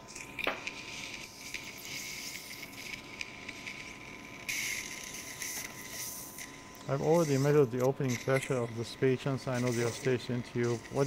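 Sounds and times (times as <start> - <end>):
suction tip hissing and crackling: 0.0 - 11.0.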